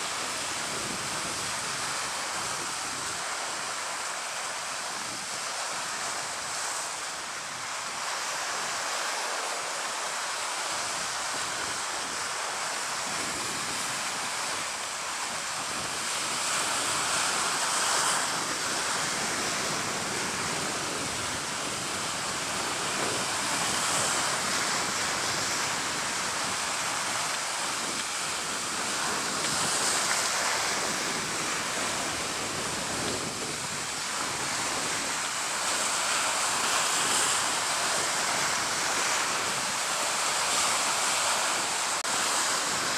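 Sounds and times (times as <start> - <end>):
sea waves washing: 0.0 - 42.9.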